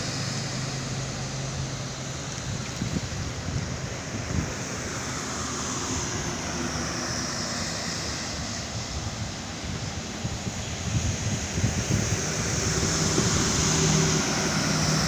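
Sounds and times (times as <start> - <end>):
road and wind noise: 0.0 - 15.0
truck engine rumble: 0.0 - 15.0.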